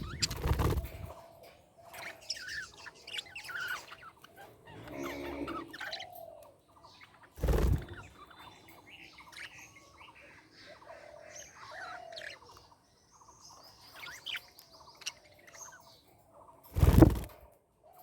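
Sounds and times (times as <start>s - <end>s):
budgerigars chattering: 0.0s - 1.2s, 2.0s - 15.9s.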